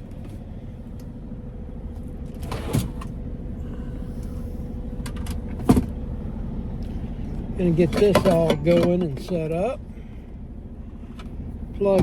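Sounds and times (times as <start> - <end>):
low rumble in truck cab: 0.0 - 12.0.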